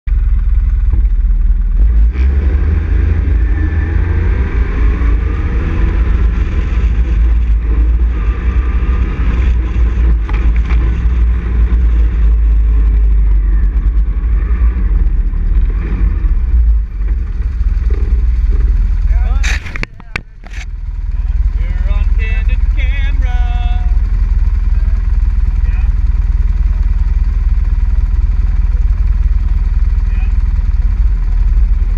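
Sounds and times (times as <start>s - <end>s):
atv engine running: 0.1s - 31.9s.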